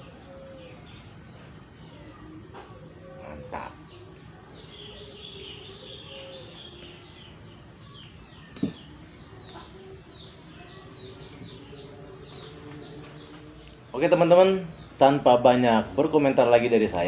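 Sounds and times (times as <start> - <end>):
small bird chirping: 0.0 - 15.1.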